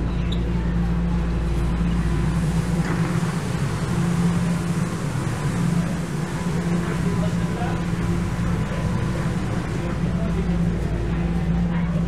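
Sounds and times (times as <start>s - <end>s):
motor hum: 0.0s - 12.0s
subway train rumbling: 0.0s - 12.0s.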